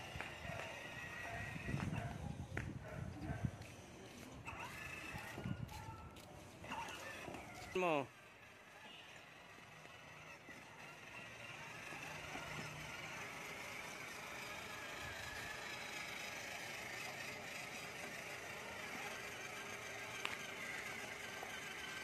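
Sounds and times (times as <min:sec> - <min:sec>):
toy car electric motor whirring: 0:00.0 - 0:22.0.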